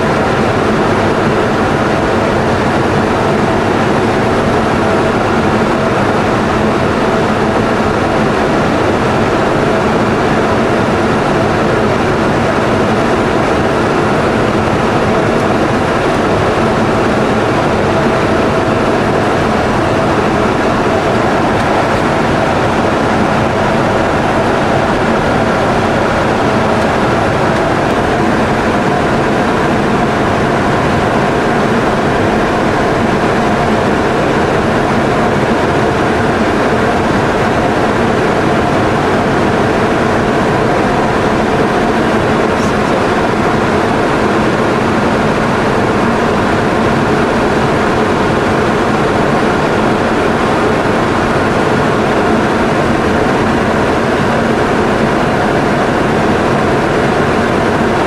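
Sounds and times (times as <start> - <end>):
airflow rush and engine drone: 0.0 - 58.0.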